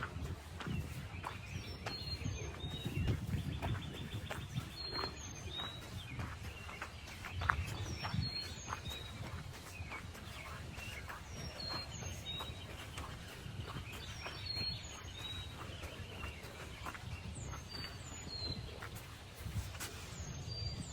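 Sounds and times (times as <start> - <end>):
footsteps on forest floor: 0.0 - 20.9
songbirds chirping: 0.0 - 20.9.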